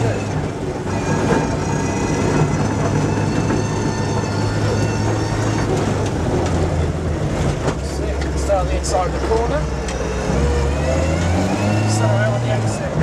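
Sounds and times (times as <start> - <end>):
car engine under load: 0.0 - 13.0
road and tyre noise: 0.0 - 13.0.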